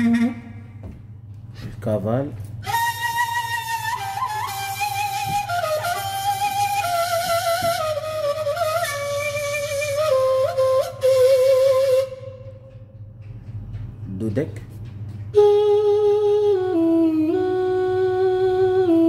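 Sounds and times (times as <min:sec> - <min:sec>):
keyboard flute melody: 0:00.0 - 0:00.8, 0:02.6 - 0:13.3, 0:15.2 - 0:19.0.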